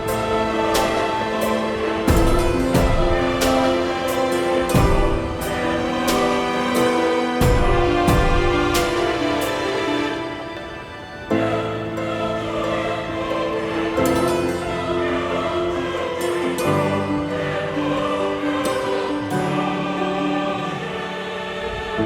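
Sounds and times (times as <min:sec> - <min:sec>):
choir singing held notes: 0:00.0 - 0:22.0.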